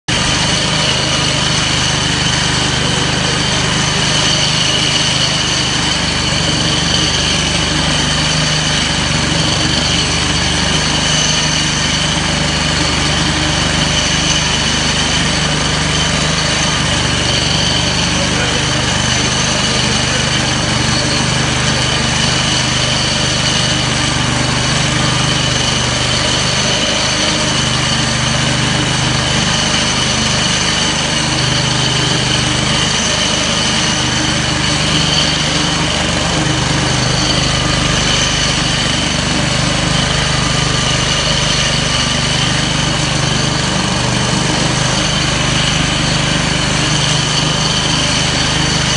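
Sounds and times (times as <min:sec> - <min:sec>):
floor grinder running: 0:00.0 - 0:48.9.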